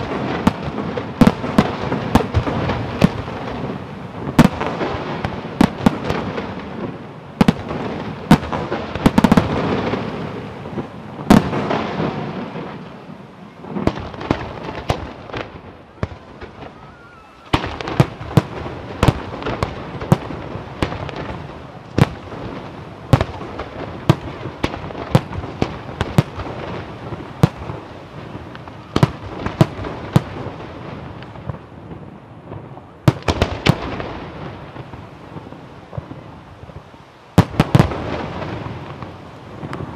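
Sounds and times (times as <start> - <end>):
firework rumble and crackle: 0.0 - 39.9.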